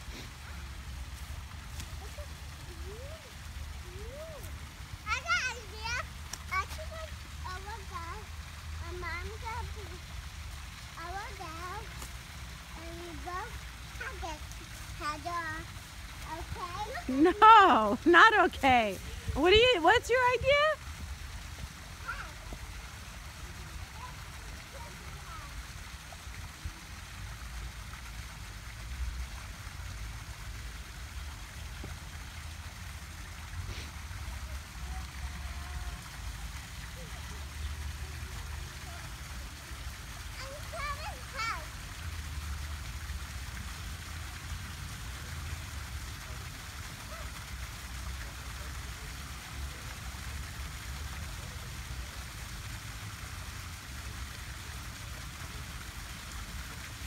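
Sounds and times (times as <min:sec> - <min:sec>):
waterfall flowing over stones: 0:00.0 - 0:57.0.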